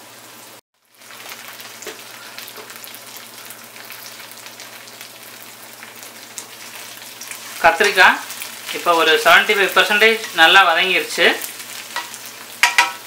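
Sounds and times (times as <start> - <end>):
oil sizzling with crackles: 0.0 - 13.0.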